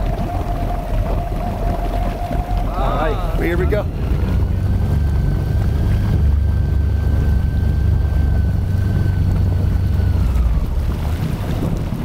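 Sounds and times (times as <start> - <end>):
boat engine rumble and whine: 0.0 - 12.0
water rushing against hull: 0.0 - 12.0.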